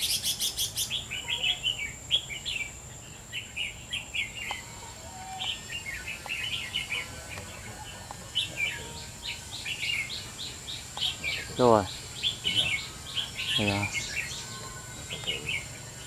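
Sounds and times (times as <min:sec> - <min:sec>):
bulbuls singing: 0:00.0 - 0:16.0.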